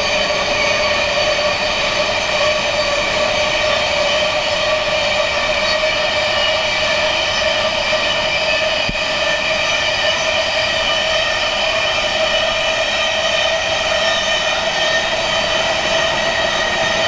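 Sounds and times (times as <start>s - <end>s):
metallic wheel squeal: 0.0s - 17.0s.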